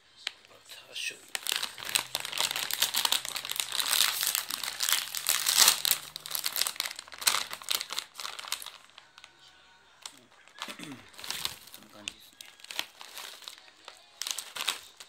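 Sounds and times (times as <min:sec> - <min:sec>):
plastic snack bag crinkling: 0:00.3 - 0:15.0.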